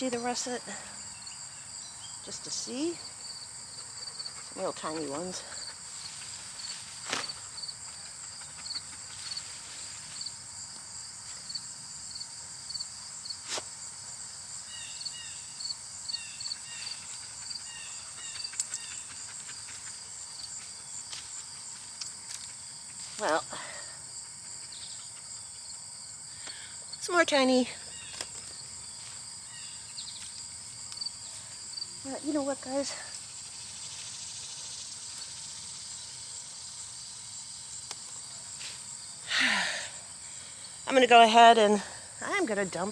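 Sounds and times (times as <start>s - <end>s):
insects trilling chorus: 0.0s - 42.9s.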